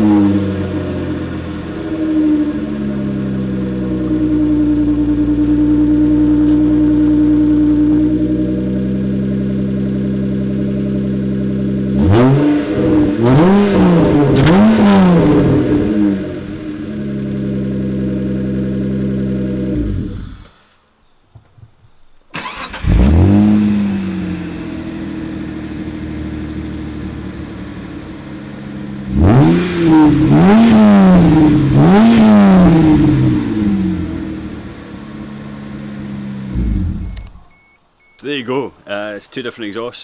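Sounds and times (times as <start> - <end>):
car engine revving: 0.0 - 20.6, 22.4 - 37.7
car engine idling: 0.0 - 39.2.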